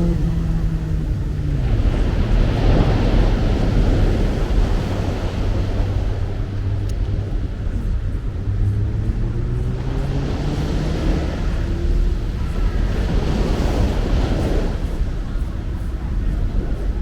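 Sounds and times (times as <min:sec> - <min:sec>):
train rumble: 0:00.0 - 0:17.0
wind noise: 0:00.0 - 0:17.0.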